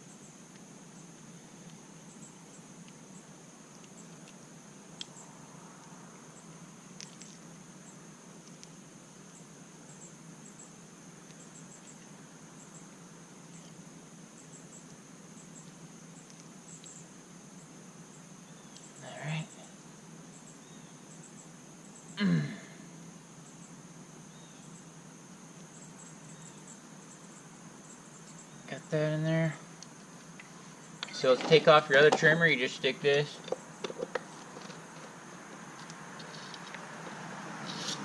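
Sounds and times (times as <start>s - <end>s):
insect chirping: 0.0s - 38.0s.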